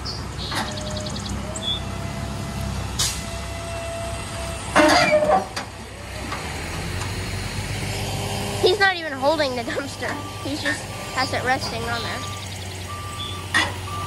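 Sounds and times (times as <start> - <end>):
garbage truck engine rumble: 0.0 - 14.0.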